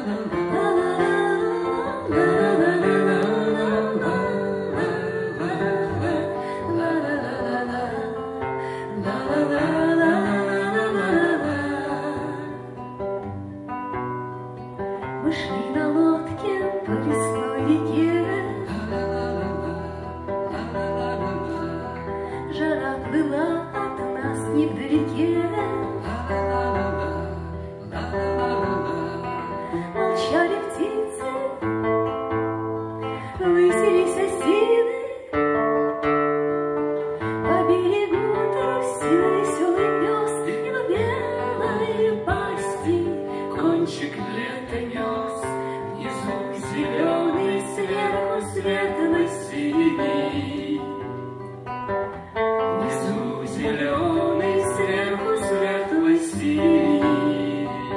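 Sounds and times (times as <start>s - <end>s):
woman singing: 0.0s - 13.0s, 15.2s - 36.6s, 37.2s - 51.2s, 52.6s - 57.9s
acoustic guitar: 0.0s - 57.9s.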